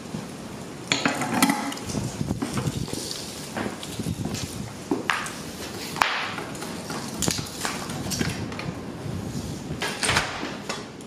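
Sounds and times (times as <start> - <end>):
propane burner roaring: 0.0 - 11.0.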